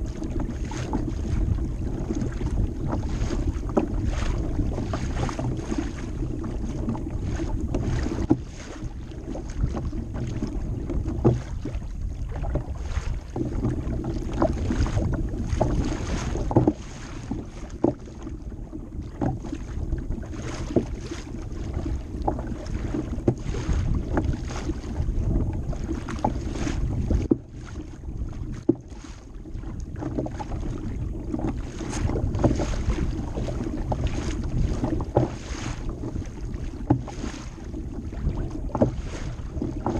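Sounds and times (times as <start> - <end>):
water slapping kayak hull: 0.0 - 39.9
wind rumble on microphone: 0.0 - 39.9.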